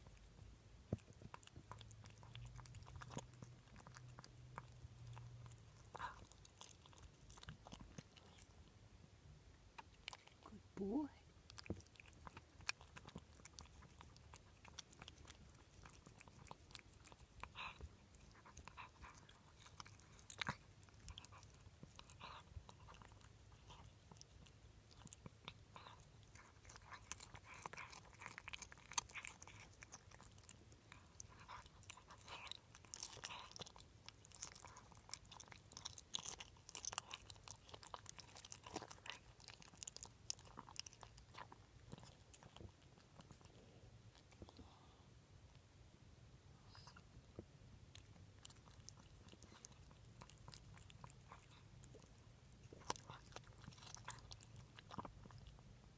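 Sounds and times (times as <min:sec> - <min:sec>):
pet chewing and crunching food: 0:00.0 - 0:45.6, 0:46.6 - 0:55.9.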